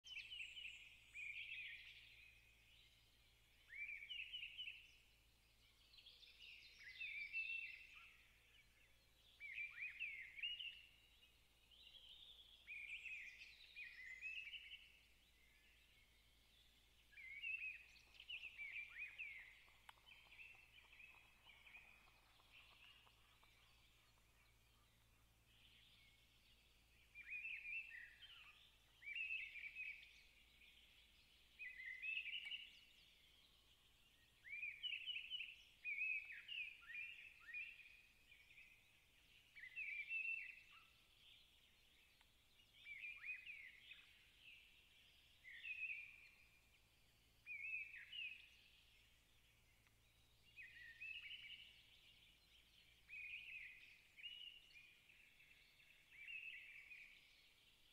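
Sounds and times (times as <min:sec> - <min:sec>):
songbird singing: 0:00.0 - 0:57.9
faint background hiss: 0:00.1 - 0:57.9.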